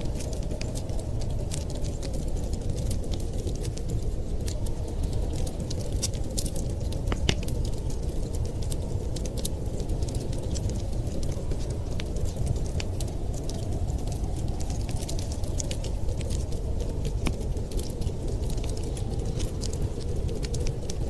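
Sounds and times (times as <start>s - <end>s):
fireplace crackling and popping: 0.0s - 21.0s
low rumble of blizzard wind: 0.0s - 21.0s.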